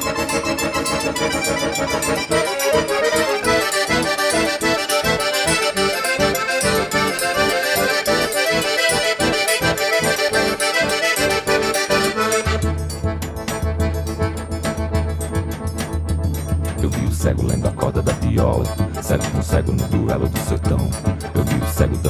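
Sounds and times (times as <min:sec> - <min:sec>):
accordion instrumental music: 0:00.0 - 0:22.0.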